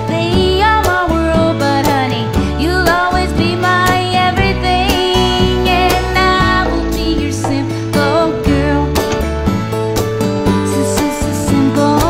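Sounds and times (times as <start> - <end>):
country music with guitar: 0.0 - 12.0.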